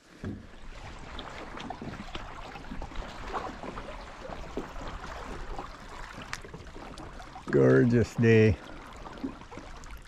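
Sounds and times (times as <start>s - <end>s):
water splashing around a boat: 0.0s - 10.0s.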